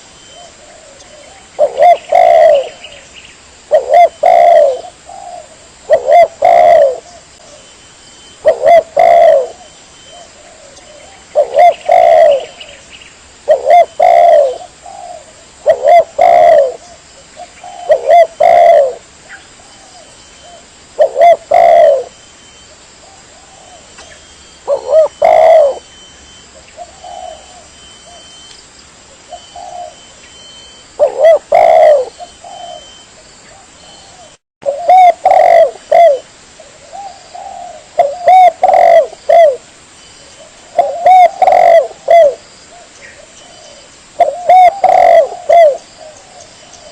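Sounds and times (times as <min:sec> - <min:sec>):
dove cooing: 0:00.0 - 0:03.0, 0:03.6 - 0:12.8, 0:13.4 - 0:26.0, 0:26.6 - 0:28.5, 0:29.2 - 0:46.9.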